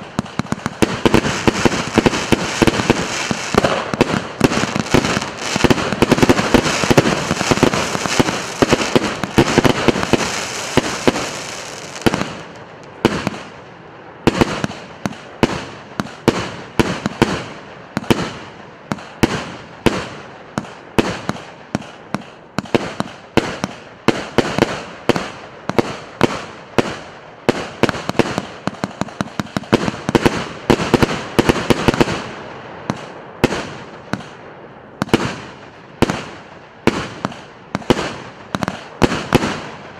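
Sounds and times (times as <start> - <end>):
firework battery bangs and crackle: 0.0 - 39.9
firework shots with echo: 0.0 - 39.9.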